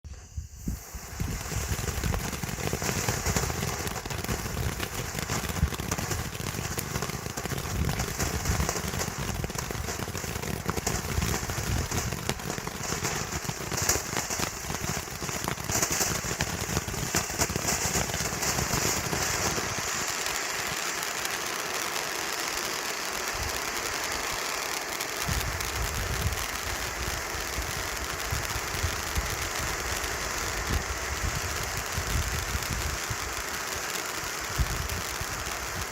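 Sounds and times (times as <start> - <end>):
firework fountain hissing and crackling: 0.0 - 35.9.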